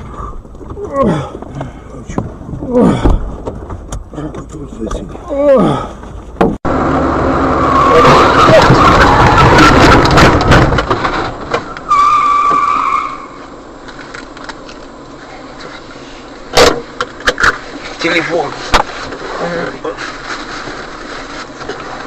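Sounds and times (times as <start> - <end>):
tyre and road noise: 0.0 - 22.0.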